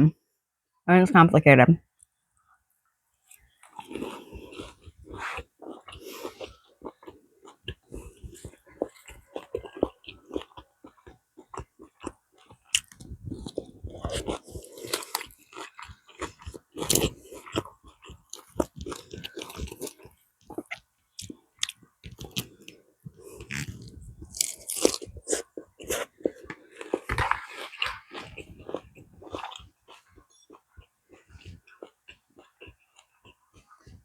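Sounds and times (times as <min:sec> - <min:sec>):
person chewing crunchy food: 0:03.3 - 0:34.0
wet mouth sounds: 0:03.6 - 0:34.0.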